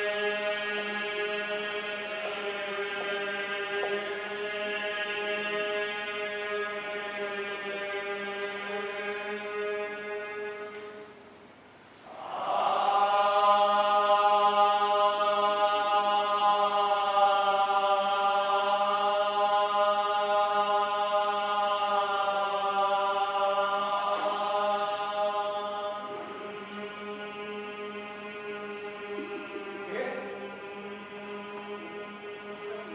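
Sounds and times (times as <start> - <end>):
monks chanting in unison: 0.0 - 11.1, 12.0 - 32.9.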